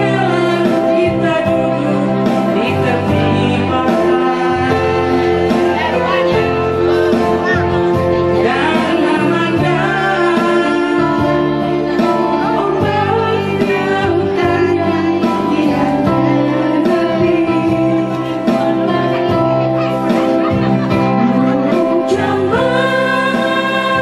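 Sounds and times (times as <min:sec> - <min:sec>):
backing music over loudspeaker: 0:00.0 - 0:24.0
woman singing into microphone: 0:00.0 - 0:24.0.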